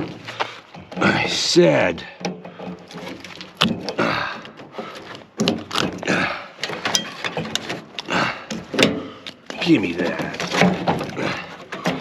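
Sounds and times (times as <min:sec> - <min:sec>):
knocks and clanks on sheet metal: 0:00.0 - 0:12.0.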